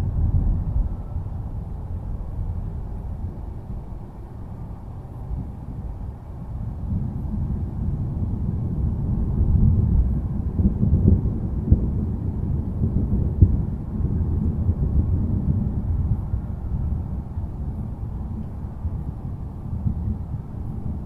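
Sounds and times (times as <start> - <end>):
low rolling thunder: 0.0 - 21.0.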